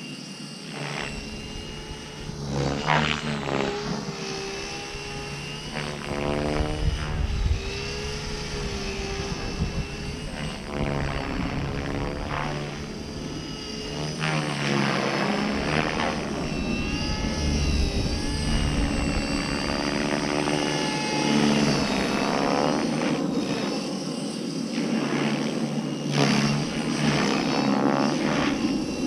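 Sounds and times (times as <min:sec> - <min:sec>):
model helicopter rotor whirring: 0:00.0 - 0:29.0.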